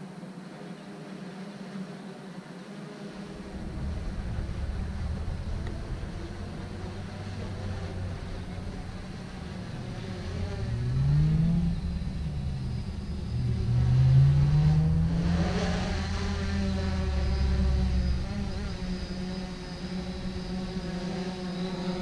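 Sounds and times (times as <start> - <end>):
steady low rumble: 3.1 - 22.0
vehicle engine accelerating: 3.1 - 22.0.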